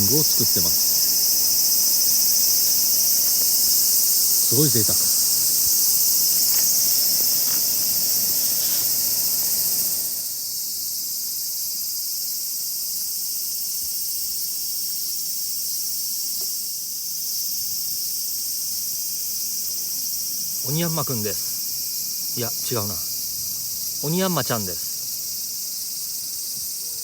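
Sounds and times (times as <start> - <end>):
insects shrilling: 0.0 - 27.0.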